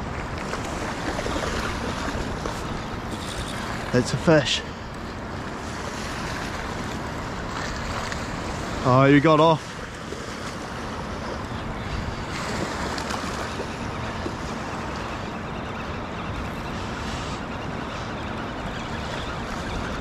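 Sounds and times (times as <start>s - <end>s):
small waves lapping on shore: 0.0s - 20.0s.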